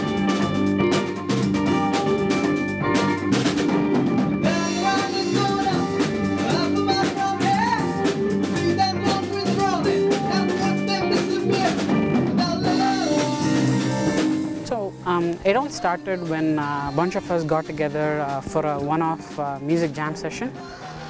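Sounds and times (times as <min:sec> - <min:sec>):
sustained rock chords: 0:00.0 - 0:20.5
bending melodic lead line: 0:00.0 - 0:20.6
drum kit: 0:00.0 - 0:21.0.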